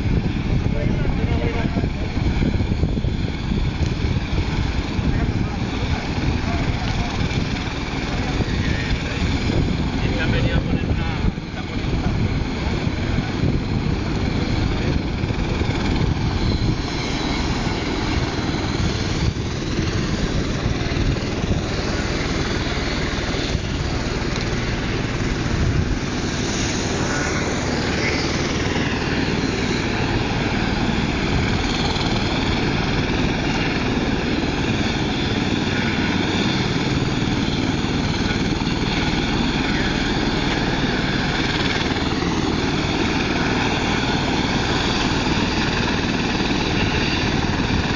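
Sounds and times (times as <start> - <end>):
helicopter rotor and engine: 0.0 - 47.9
high turbine whine: 0.0 - 47.9.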